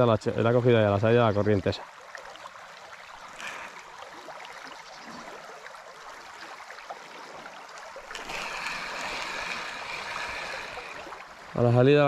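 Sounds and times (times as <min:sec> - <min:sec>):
river water rushing: 0:01.8 - 0:12.0.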